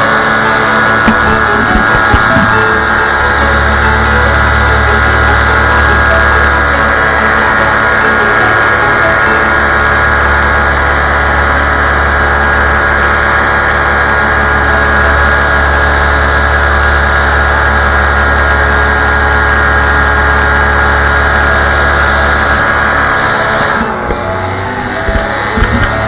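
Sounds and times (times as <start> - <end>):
paramotor engine running: 0.0 - 26.0.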